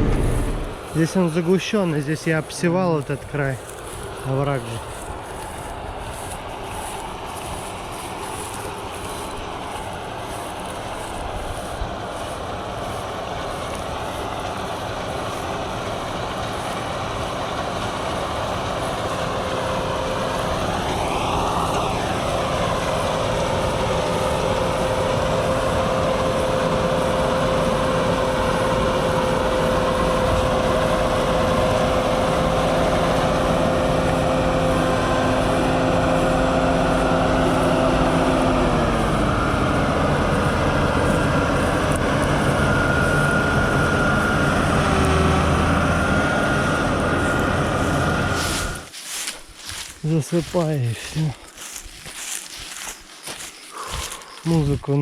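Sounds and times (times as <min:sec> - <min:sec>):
steady hum: 0:00.0 - 0:50.2
combine harvester machinery drone: 0:00.0 - 0:55.0.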